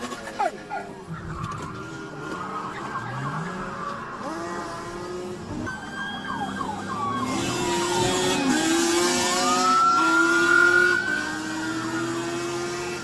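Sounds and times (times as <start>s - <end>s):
road and wind noise: 0.0s - 13.0s
vehicle engine revving: 0.0s - 13.0s
police siren wailing: 0.4s - 13.0s.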